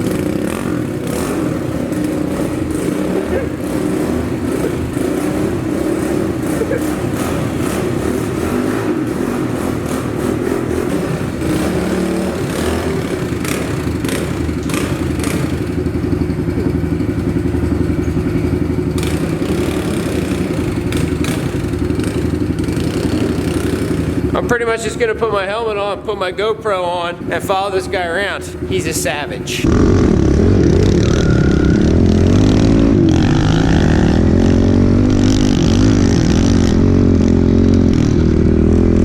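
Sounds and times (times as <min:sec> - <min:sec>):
small bike engine idling: 0:00.0 - 0:39.0.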